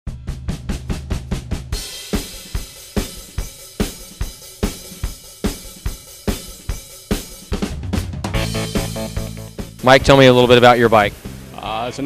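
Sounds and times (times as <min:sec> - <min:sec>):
intro music with drum beat: 0:00.1 - 0:12.0.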